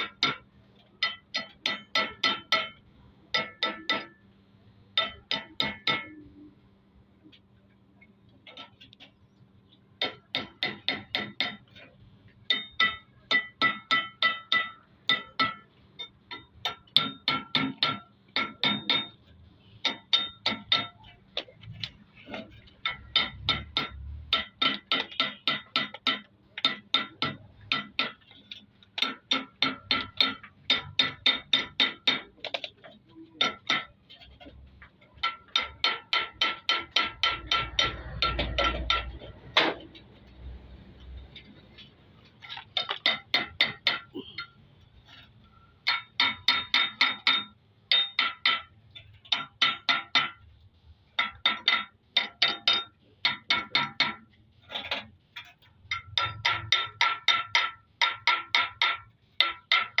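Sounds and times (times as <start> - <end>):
metal tool tapping metal: 0.0 - 4.2, 4.9 - 6.4, 10.0 - 40.4, 41.0 - 50.6, 51.2 - 60.0.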